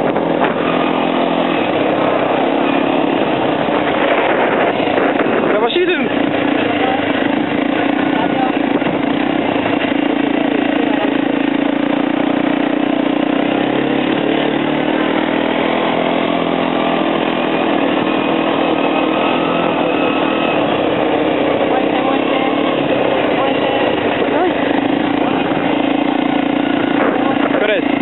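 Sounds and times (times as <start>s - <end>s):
quad bike engine running: 0.0s - 28.0s
rush of noise: 0.0s - 28.0s.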